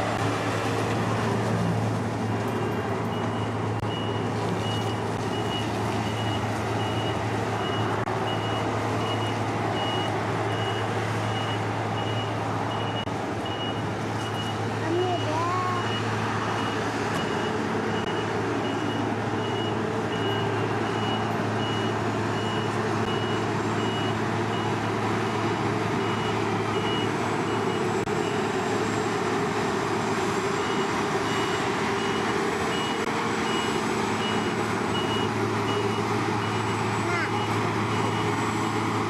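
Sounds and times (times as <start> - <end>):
heavy diesel engines running: 0.0 - 39.0
reversing warning beeper: 2.5 - 28.9, 30.6 - 38.9.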